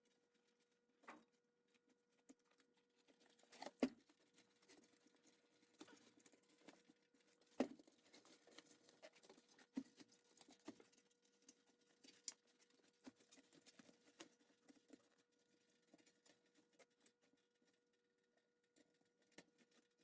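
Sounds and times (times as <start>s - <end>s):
faint clicks and light taps: 0.0s - 20.0s.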